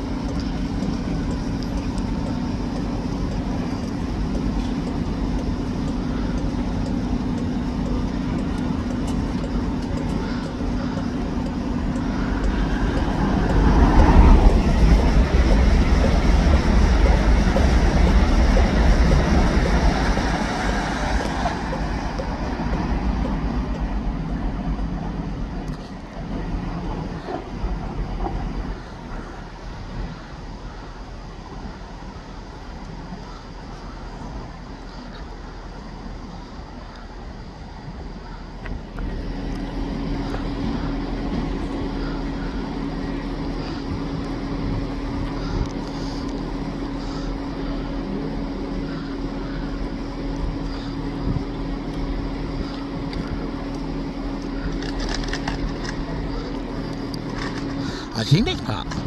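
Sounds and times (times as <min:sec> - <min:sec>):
train electric hum: 0:00.0 - 0:59.0
train rumble: 0:00.0 - 0:59.0.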